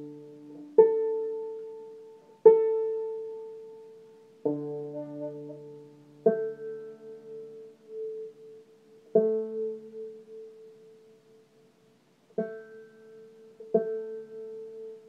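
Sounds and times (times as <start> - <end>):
banjo strings plucked: 0.0 - 11.5, 12.3 - 15.0.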